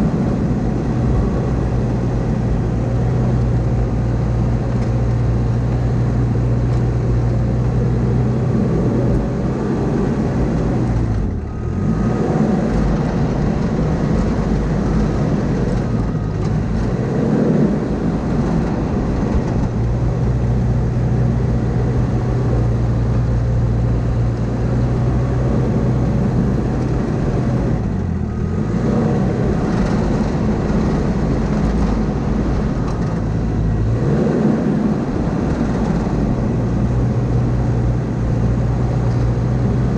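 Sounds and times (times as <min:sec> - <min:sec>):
diesel engine at high revs: 0:00.0 - 0:39.9.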